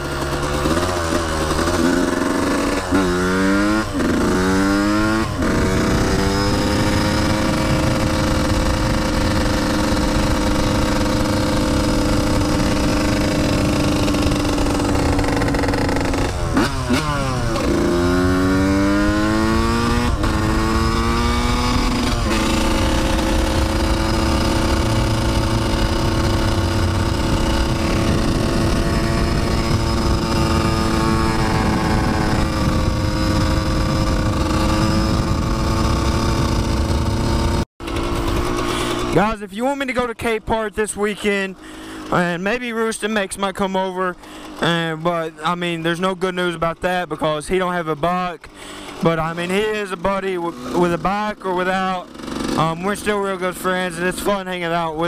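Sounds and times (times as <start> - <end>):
dirt bike engine accelerating: 0.0 - 55.0.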